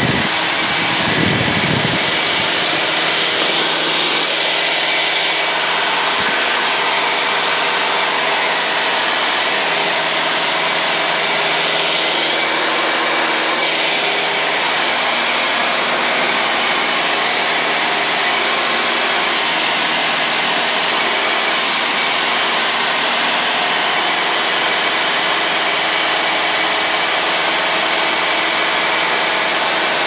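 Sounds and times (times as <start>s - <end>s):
airplane engine and propeller drone: 0.0s - 30.0s.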